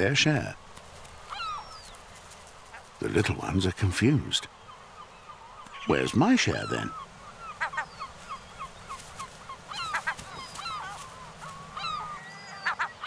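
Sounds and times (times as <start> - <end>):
gull chicks peeping: 0.0 - 13.0.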